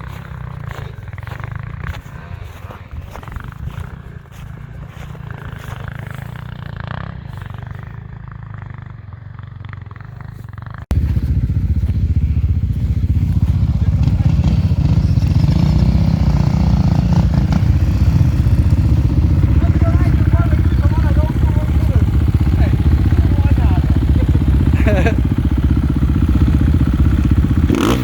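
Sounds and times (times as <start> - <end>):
close engine running: 0.0 - 28.0
motorcycle engines running: 0.0 - 28.0.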